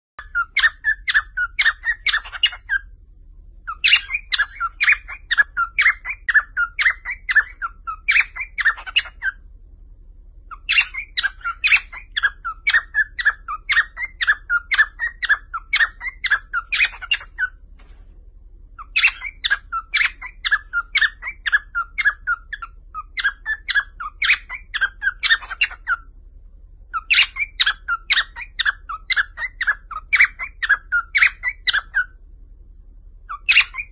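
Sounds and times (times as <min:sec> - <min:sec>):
cockatiel chirping rapidly: 0:00.2 - 0:02.9, 0:03.7 - 0:09.4, 0:10.5 - 0:17.6, 0:18.8 - 0:26.1, 0:26.9 - 0:32.2, 0:33.3 - 0:33.9.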